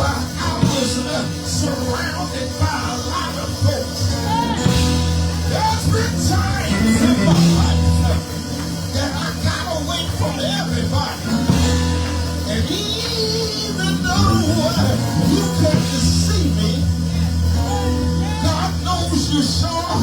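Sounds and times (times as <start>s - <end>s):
church music chords: 0.0s - 20.0s
person singing: 0.0s - 20.0s.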